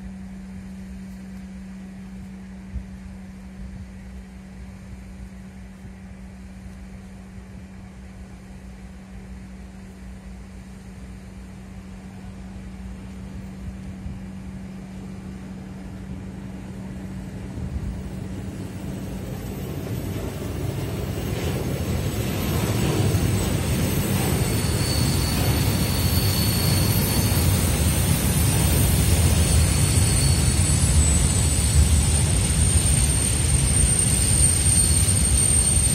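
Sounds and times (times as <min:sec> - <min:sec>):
steady low hum: 0:00.0 - 0:35.9
train wheels rumbling on rails: 0:00.5 - 0:35.9.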